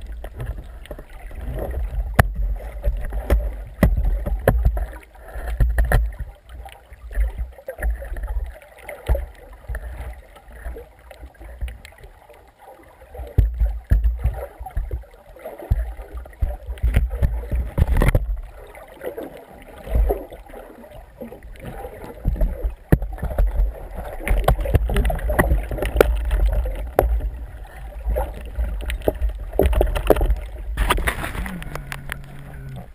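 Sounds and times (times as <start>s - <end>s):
splashes and knocks: 0.0s - 12.0s, 13.1s - 32.9s
low underwater rumble: 0.0s - 32.9s
water sloshing and gurgling: 0.0s - 32.9s.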